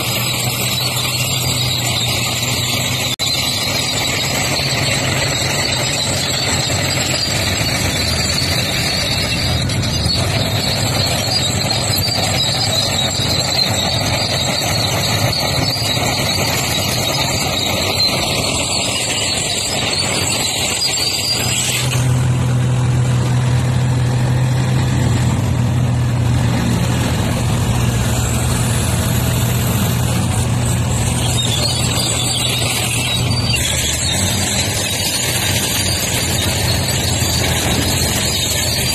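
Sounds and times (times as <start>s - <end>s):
diesel engines humming: 0.0s - 38.9s.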